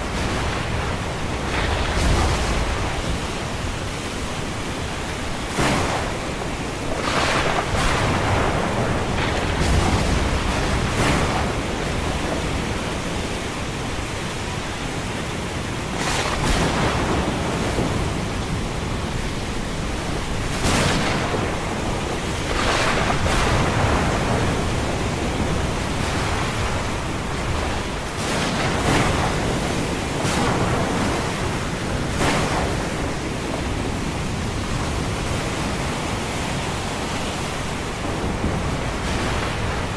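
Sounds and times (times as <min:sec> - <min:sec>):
ocean surf roar: 0:00.0 - 0:39.9
waves breaking: 0:00.0 - 0:39.9.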